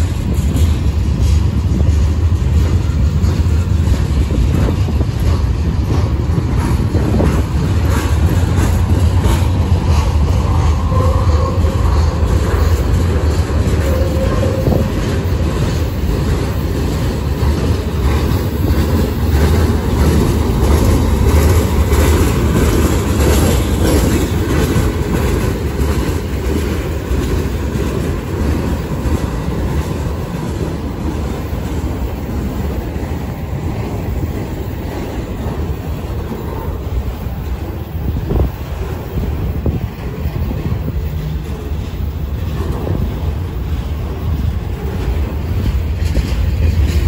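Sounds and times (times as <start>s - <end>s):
freight train wheels rumbling: 0.0s - 47.0s
wheels clicking over rail joints: 0.0s - 47.0s.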